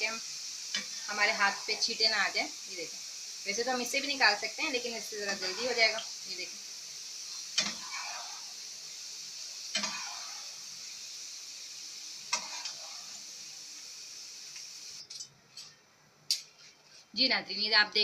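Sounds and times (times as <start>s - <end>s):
fries sizzling in oil: 0.0s - 15.8s.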